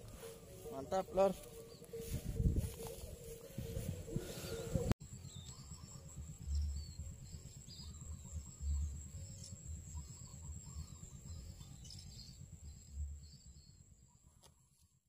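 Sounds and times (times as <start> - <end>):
insects chirring: 0.0 - 13.6.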